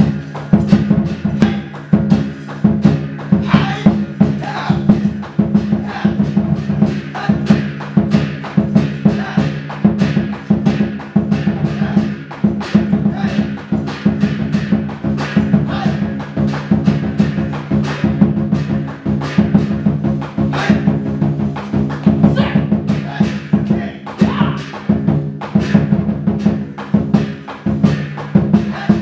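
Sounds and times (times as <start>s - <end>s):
barrel drum beating: 0.0s - 29.0s
hand cymbals crashing: 0.0s - 29.0s.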